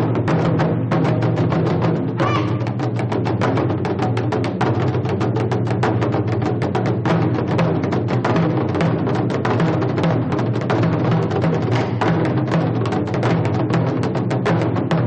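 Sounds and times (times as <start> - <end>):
drum beaten rapidly: 0.0 - 15.0.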